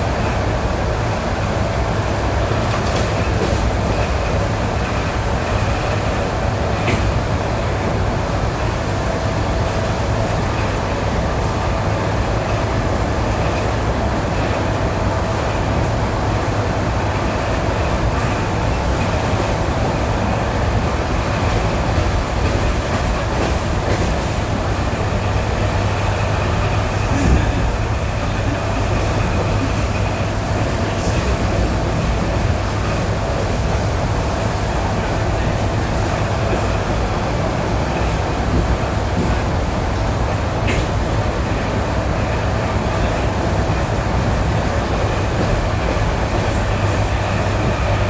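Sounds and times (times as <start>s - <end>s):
train rumbling with whine: 0.0s - 48.0s.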